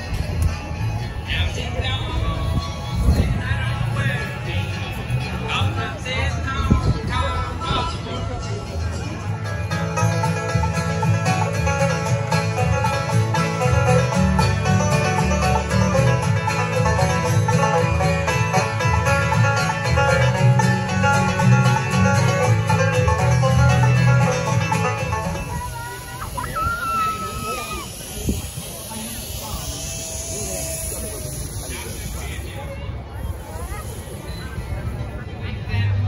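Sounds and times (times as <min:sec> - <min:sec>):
strummed acoustic guitars: 0:00.0 - 0:32.1
banjo picking: 0:00.0 - 0:32.2
upright bass: 0:00.0 - 0:36.0.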